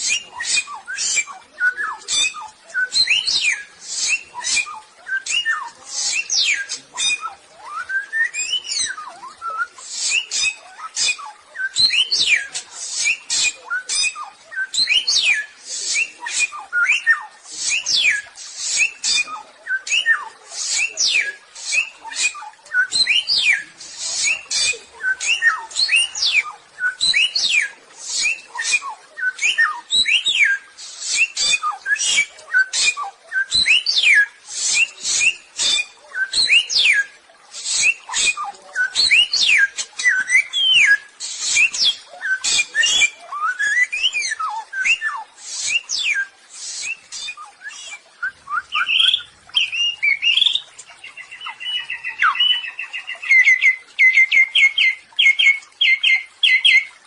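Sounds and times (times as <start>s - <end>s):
bird singing harsh chips: 0.0s - 57.0s.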